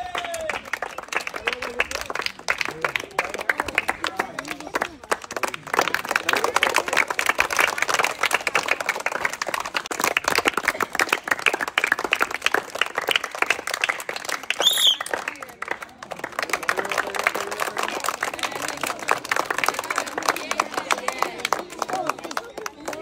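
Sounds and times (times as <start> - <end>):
people clapping fast: 0.0 - 23.0.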